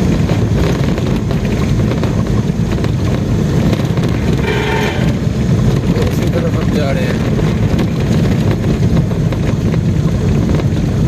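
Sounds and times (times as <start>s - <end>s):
vehicle engine and road rumble: 0.0s - 11.0s
wind noise: 0.0s - 11.0s.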